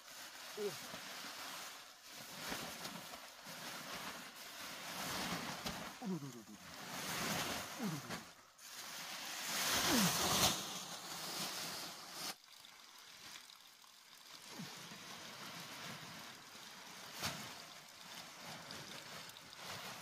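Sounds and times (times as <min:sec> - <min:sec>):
plastic sheeting rustling: 0:00.0 - 0:20.0.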